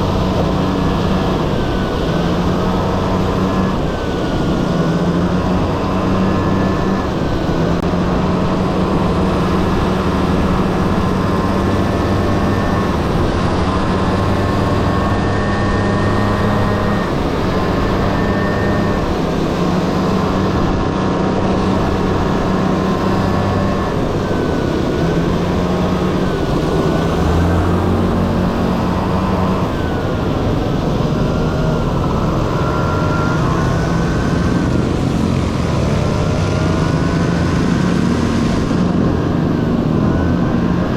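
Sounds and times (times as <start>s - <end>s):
scooter two-stroke engine running: 0.0s - 40.8s.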